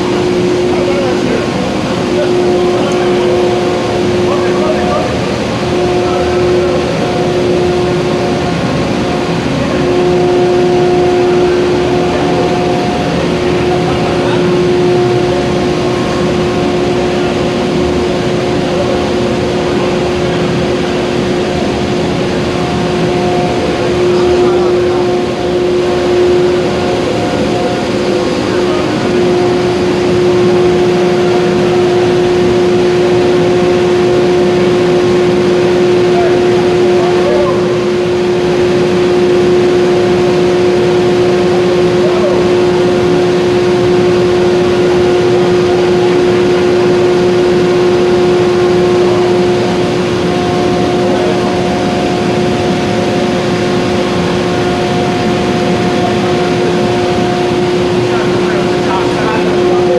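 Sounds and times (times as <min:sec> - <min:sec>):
furnace burner roaring: 0:00.0 - 0:59.9
steady hum: 0:00.0 - 0:59.9.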